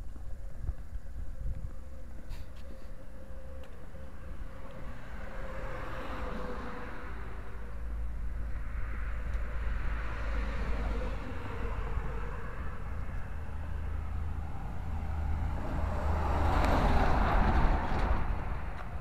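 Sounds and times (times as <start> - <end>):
faint wavering engine tone: 0.0 - 19.0
road traffic rumble: 0.0 - 19.0.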